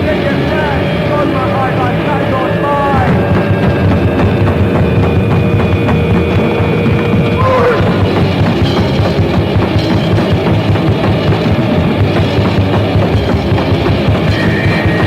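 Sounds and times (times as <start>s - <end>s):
pounding drums: 0.0s - 15.0s
punk band playing: 0.0s - 15.0s.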